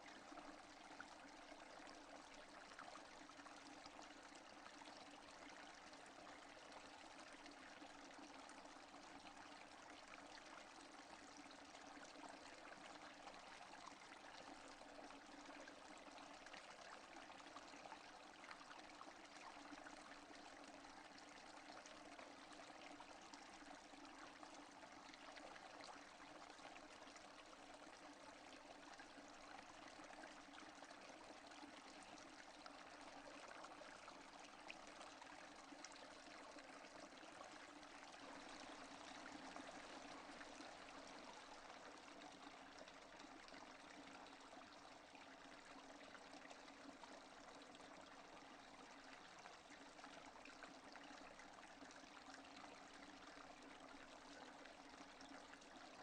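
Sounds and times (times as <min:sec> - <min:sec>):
faint steady rain: 0:00.0 - 0:56.0.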